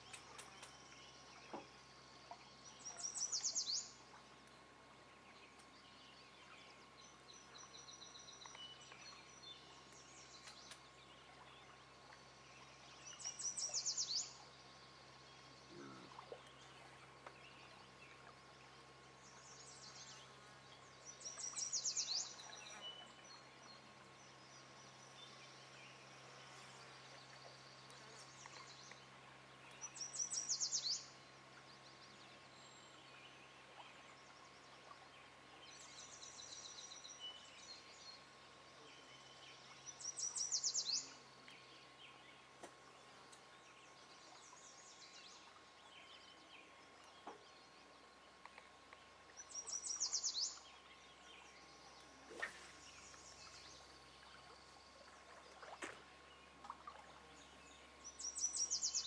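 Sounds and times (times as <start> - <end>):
soft bird chirps: 0.0 - 59.0
songbird singing: 0.0 - 59.0.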